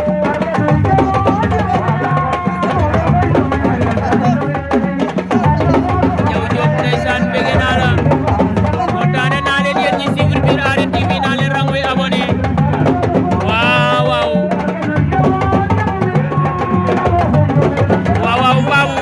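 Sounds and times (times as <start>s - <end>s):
music with steady drum pattern: 0.0s - 19.0s
voices singing: 0.0s - 19.0s.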